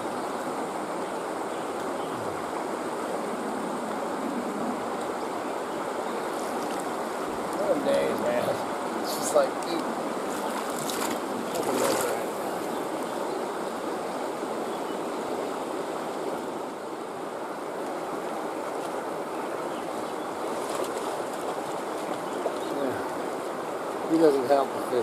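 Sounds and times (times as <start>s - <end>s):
creek running over rocks: 0.0s - 25.0s.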